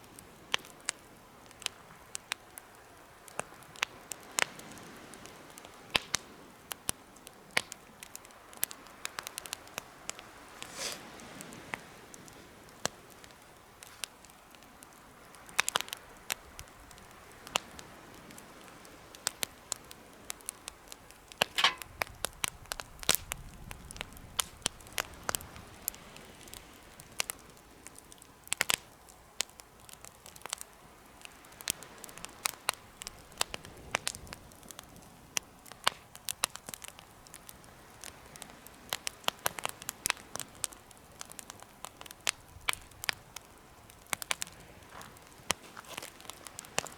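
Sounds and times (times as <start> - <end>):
wood fire crackling and popping: 0.0 - 46.9
fire hissing: 8.2 - 46.9.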